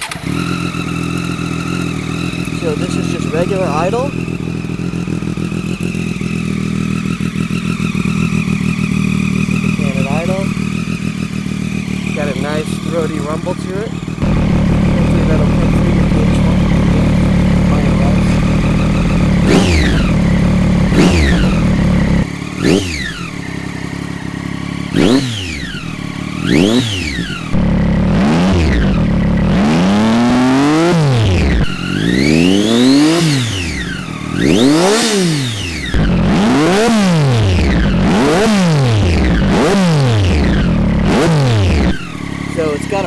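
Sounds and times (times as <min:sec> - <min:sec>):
motorcycle engine idling and revving: 0:00.0 - 0:43.0.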